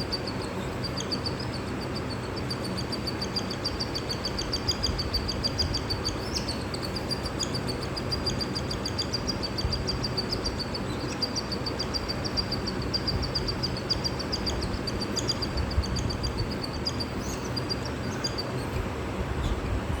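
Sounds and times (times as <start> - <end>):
bird chick begging chirps: 0.0 - 18.8
low background rumble: 0.0 - 20.0.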